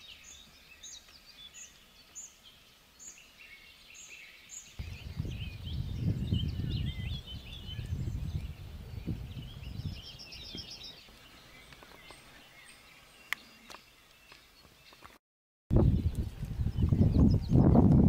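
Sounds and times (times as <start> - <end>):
small birds chirping and singing: 0.0 - 18.0.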